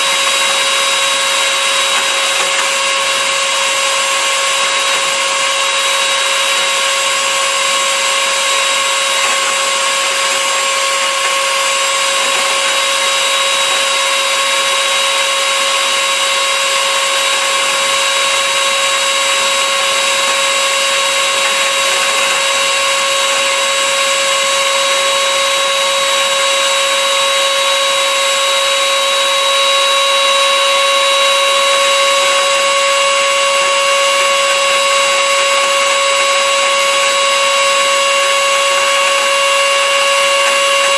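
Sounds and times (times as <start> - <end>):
blender motor whining: 0.0 - 40.9.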